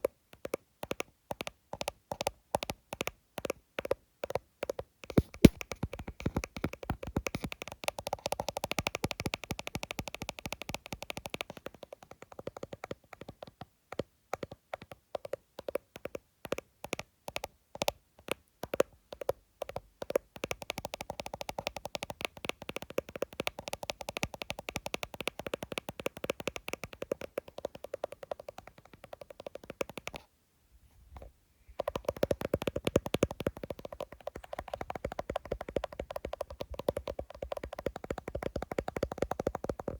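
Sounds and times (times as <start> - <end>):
fast tapping on phone screen: 0.3 - 30.3, 31.8 - 39.9.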